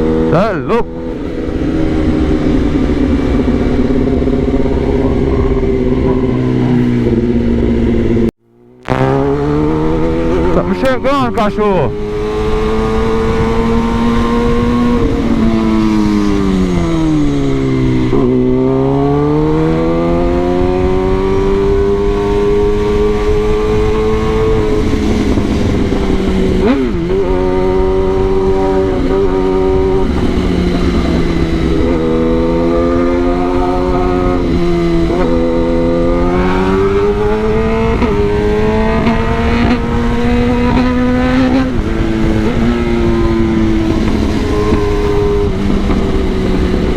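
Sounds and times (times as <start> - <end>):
motorcycle engine revving: 0.0 - 46.9
wind and road noise: 0.0 - 46.9.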